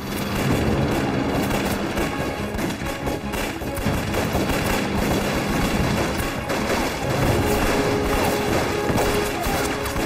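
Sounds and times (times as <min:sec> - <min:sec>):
action film music: 0:00.0 - 0:10.0
fast dense gunfire: 0:00.0 - 0:10.0.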